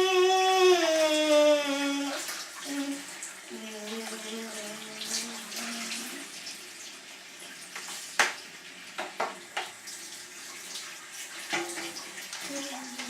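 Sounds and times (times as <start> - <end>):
water splashing in a bath: 0.0 - 13.0.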